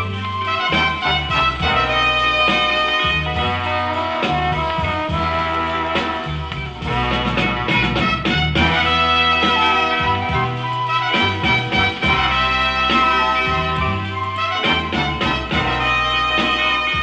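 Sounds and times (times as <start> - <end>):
instrumental dance orchestra music: 0.0 - 17.0.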